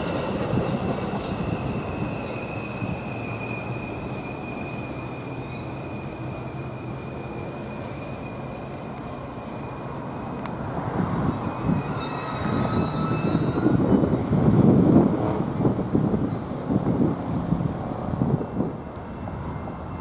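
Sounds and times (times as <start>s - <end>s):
train rumble on rails: 0.0s - 20.0s.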